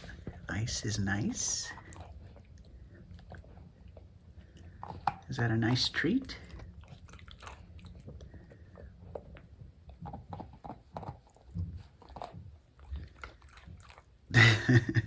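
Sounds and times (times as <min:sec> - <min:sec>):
puppy chewing ice: 0:00.0 - 0:14.4.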